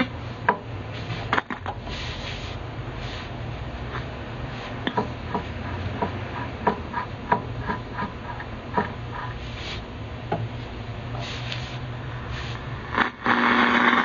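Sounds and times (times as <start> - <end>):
radio receiver hum and noise: 0.0 - 14.0.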